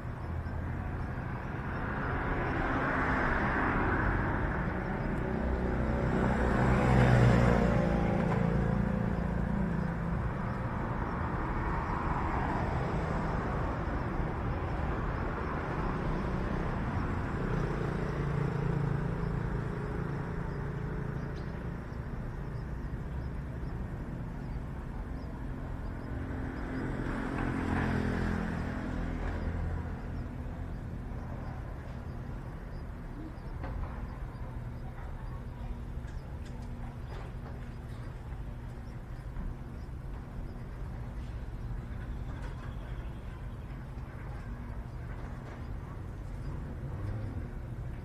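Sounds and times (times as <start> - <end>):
low traffic rumble: 0.0 - 48.0
vehicles passing: 0.0 - 48.0.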